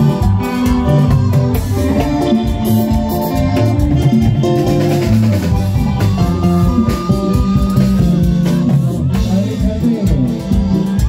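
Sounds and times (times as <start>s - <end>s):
guitar: 0.0s - 11.0s
live band music over pa: 0.0s - 11.0s
steady drum beat: 0.0s - 11.0s.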